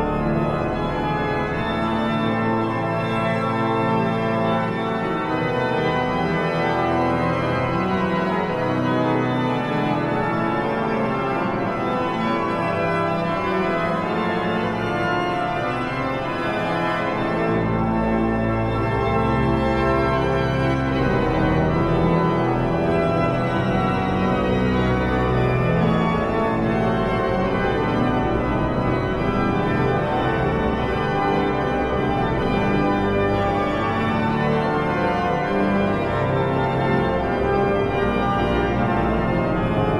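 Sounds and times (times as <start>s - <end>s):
deep organ pedal notes: 0.0s - 39.9s
pipe organ chords: 0.0s - 39.9s.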